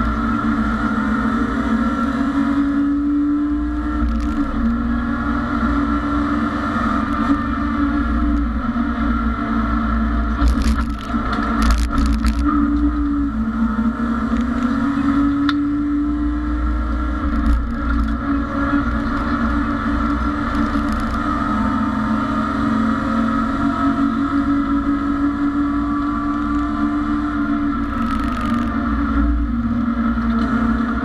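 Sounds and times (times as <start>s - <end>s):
race car engine at high revs: 0.0s - 31.0s
road and drivetrain rumble: 0.0s - 31.0s.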